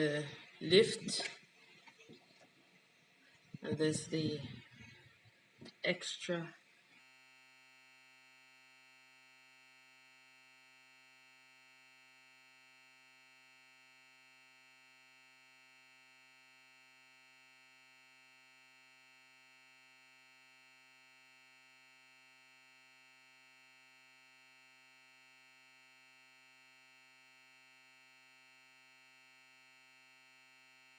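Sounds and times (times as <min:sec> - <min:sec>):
faint hum: 0:00.0 - 0:30.9.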